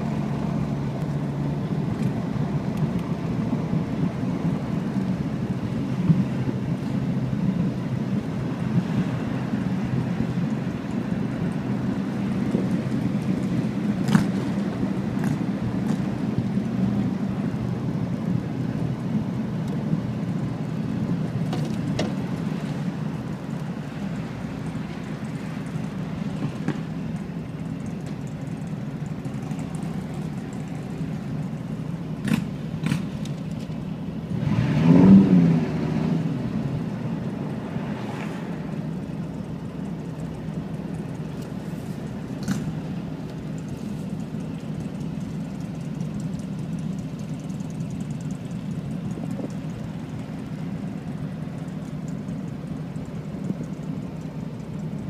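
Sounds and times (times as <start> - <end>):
vehicle engine while driving: 0.0 - 55.0.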